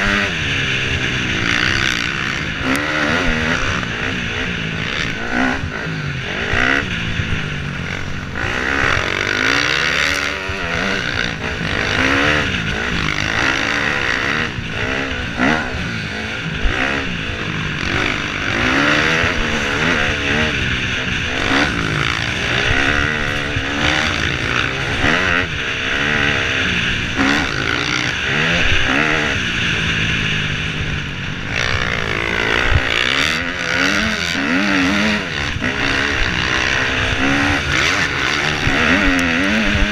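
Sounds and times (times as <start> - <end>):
dirt bike engine revving: 0.0 - 39.9
wind rushing over microphone: 0.0 - 39.9.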